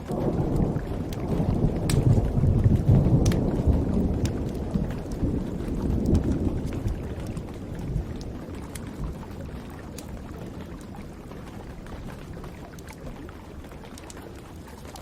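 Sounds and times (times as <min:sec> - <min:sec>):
rain hiss: 0:00.0 - 0:15.0
thunder rumble: 0:00.0 - 0:15.0
wood fire crackling and popping: 0:00.0 - 0:15.0.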